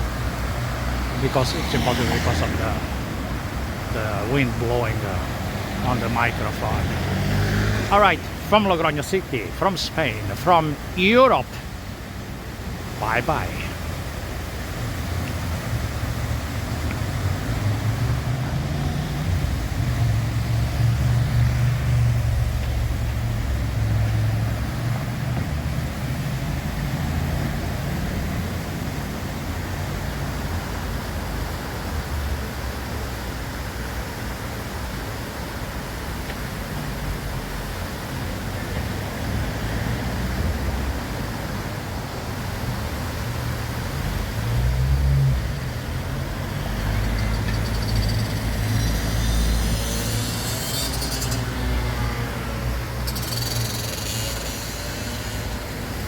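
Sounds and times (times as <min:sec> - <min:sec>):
city street traffic rumble: 0:00.0 - 0:56.0.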